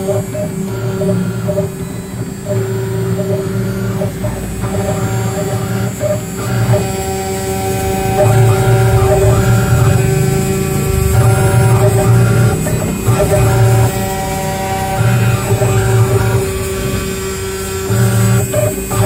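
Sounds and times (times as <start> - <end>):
cnc router electric hum: 0.0 - 19.0.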